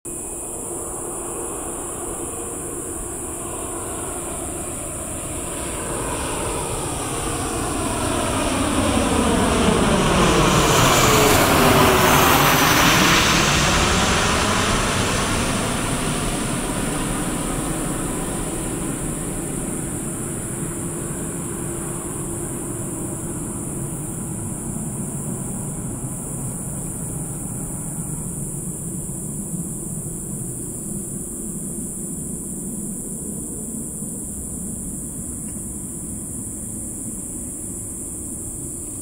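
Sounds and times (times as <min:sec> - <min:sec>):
jet aircraft passing overhead: 0:00.1 - 0:39.0.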